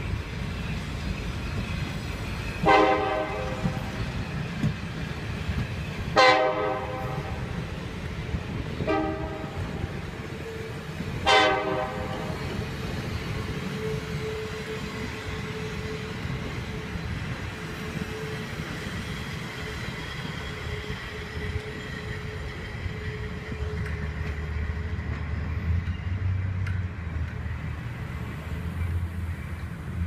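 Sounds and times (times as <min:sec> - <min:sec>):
train rolling by: 0:00.0 - 0:30.0.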